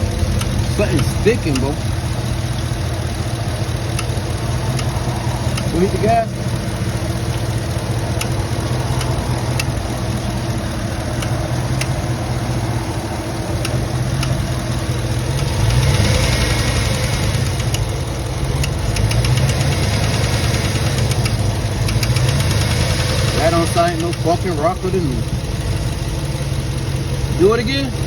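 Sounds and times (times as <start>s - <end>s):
car engine revving: 0.0s - 28.0s
engine valve ticking: 0.0s - 28.0s.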